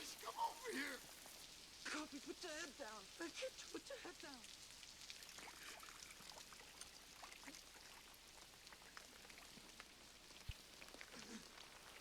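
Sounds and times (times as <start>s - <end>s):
faint steady rain: 0.0s - 12.0s.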